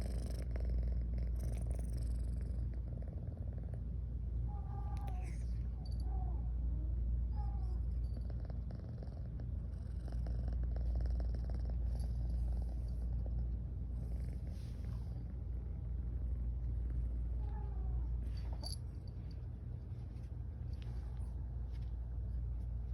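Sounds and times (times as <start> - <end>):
cat purring: 0.0 - 4.3, 7.4 - 22.9.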